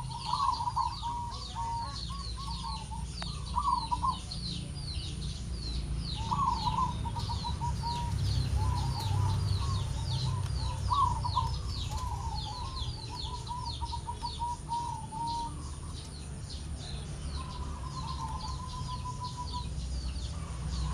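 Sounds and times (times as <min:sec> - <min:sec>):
dove trilled cooing: 0:00.0 - 0:20.9
small birds chirping: 0:00.0 - 0:20.9.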